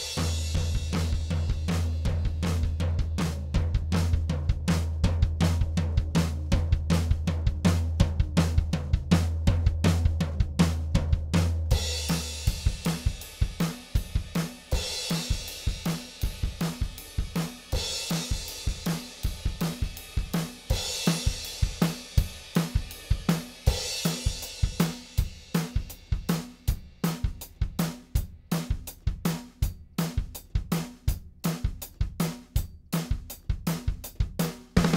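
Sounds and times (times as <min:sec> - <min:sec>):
drum kit groove: 0:00.0 - 0:34.9.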